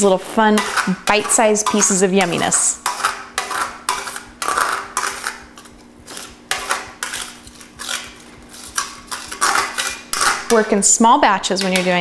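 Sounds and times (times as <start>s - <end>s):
metal spoon scraping colander: 0.0s - 12.0s.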